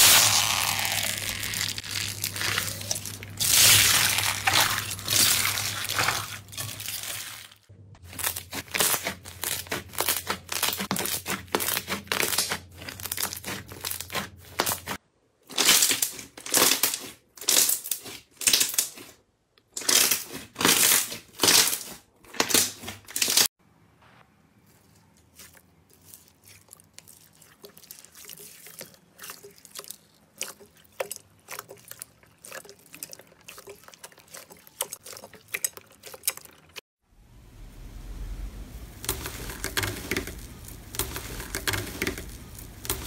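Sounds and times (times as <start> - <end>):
foam-bead slime crunching: 0.0 - 19.2, 24.6 - 36.8, 38.8 - 43.0
slime squishing: 0.0 - 19.2, 24.6 - 36.8, 38.9 - 43.0.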